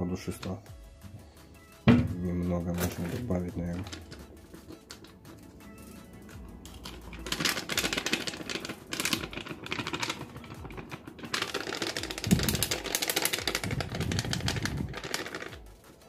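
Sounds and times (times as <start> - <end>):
spice pattering from paper sachet: 2.6 - 16.0.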